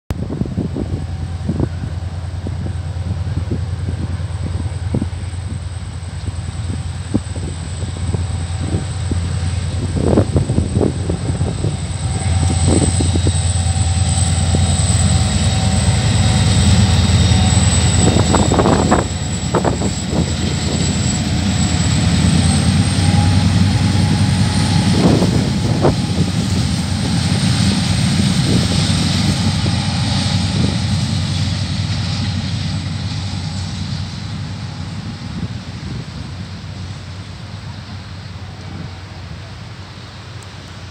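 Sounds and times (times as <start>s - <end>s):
high whine: 0.1s - 40.9s
locomotive engine drone: 0.1s - 40.9s
train wagons rumbling: 0.1s - 40.9s.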